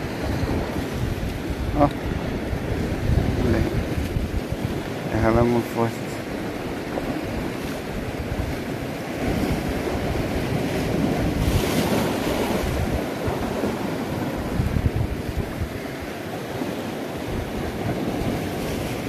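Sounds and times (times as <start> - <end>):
waves breaking against rocks: 0.0 - 19.0
wind buffeting microphone: 0.0 - 19.0.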